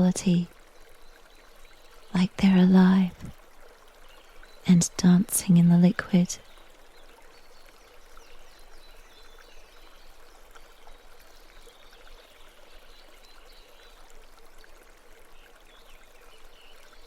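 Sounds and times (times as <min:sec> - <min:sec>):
faint babbling stream: 0:00.0 - 0:17.0.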